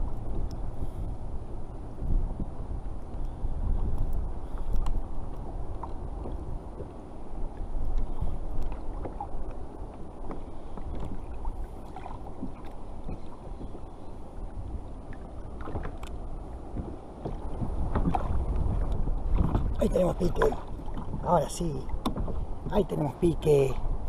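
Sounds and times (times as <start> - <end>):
wind on microphone: 0.0 - 24.0
water sloshing against kayak hull: 2.0 - 24.0.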